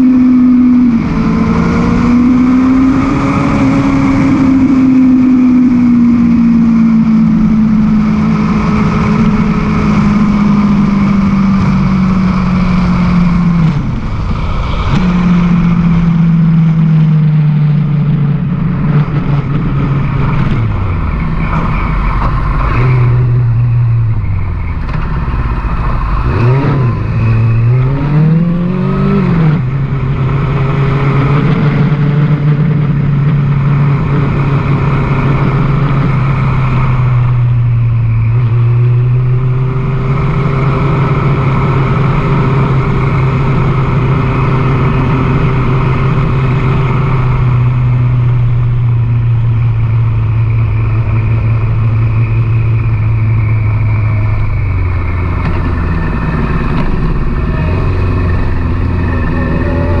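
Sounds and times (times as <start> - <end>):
motorcycle engine cruising: 0.0 - 60.0.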